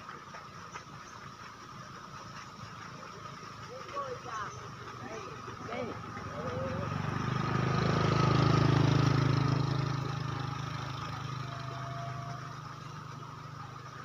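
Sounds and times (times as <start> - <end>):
small engine passing by: 0.0 - 14.0.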